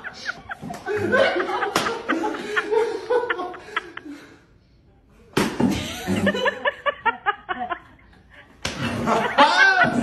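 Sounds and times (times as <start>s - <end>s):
group of people laughing: 0.0s - 4.5s, 5.6s - 10.0s.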